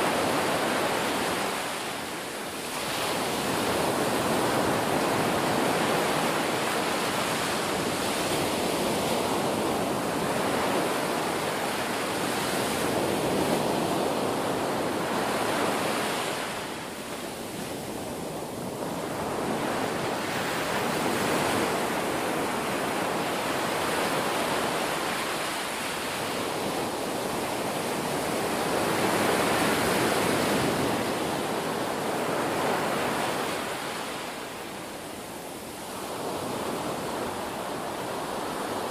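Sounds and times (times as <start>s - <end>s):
sea surf breaking on shore: 0.0s - 38.9s.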